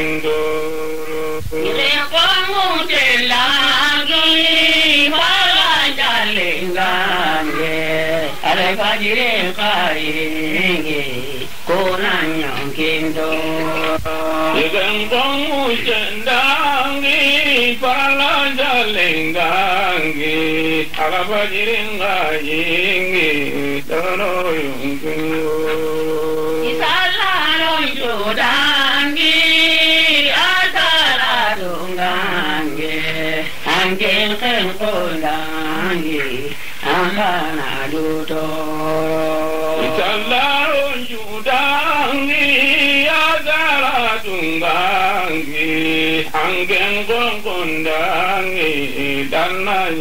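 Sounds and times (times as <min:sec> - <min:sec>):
person singing chant-like melody: 0:00.0 - 0:50.0.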